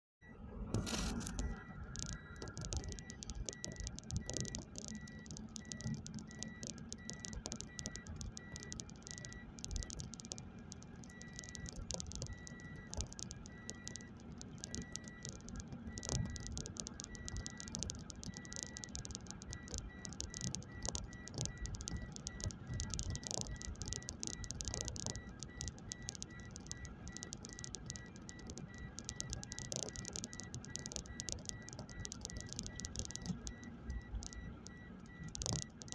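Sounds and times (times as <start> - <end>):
engine and road noise hum: 0.2 - 35.8
faint high-pitched beep: 0.2 - 35.9
rattling and ticking in car: 0.7 - 35.9.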